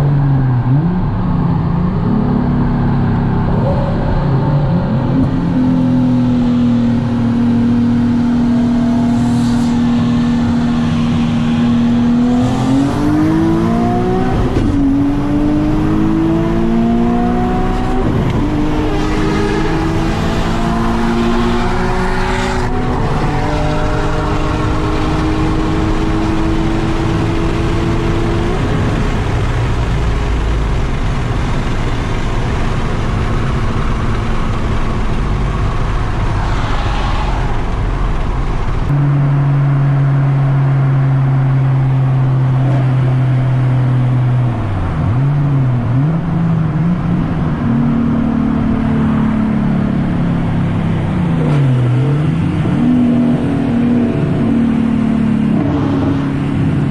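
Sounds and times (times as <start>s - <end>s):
car engine accelerating through upshifts: 0.0s - 56.9s.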